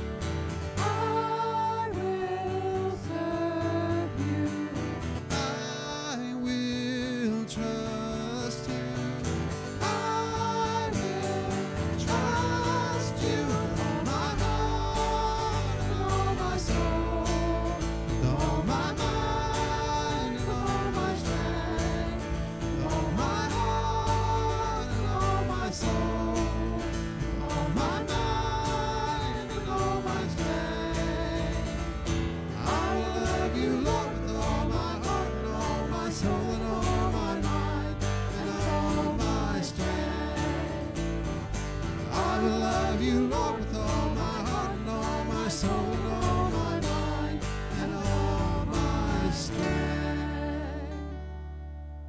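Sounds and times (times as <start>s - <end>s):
worship song with guitar: 0.0s - 52.0s.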